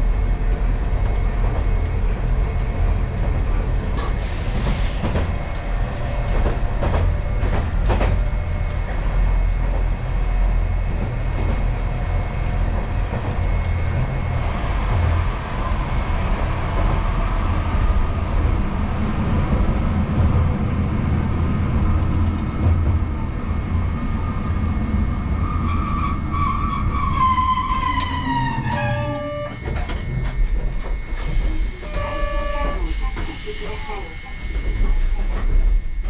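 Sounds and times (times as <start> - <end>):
streetcar rumbling on track: 0.0 - 36.0.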